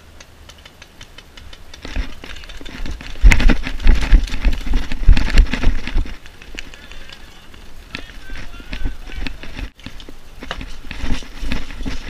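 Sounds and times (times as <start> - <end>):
rustling and rattling: 0.0 - 12.0
running footsteps: 0.5 - 12.0.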